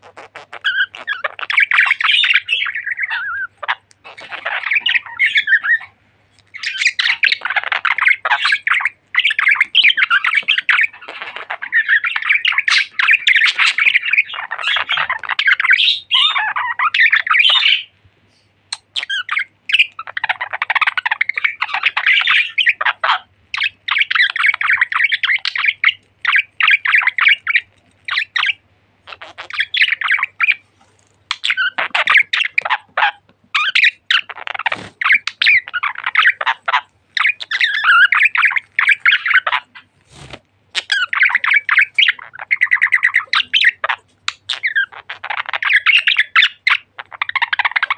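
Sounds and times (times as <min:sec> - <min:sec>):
budgerigars chirping and squawking: 0:00.0 - 0:47.9.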